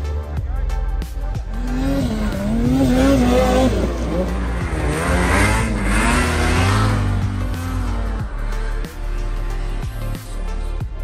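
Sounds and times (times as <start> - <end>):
snowmobile engines revving: 1.3 - 10.8.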